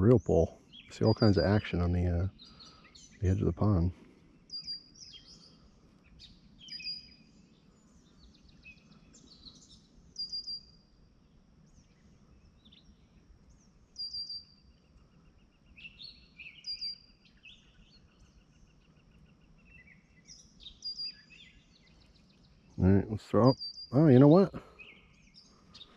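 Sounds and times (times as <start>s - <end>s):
birds chirping: 0.0s - 25.9s
faint outdoor background: 0.0s - 25.9s.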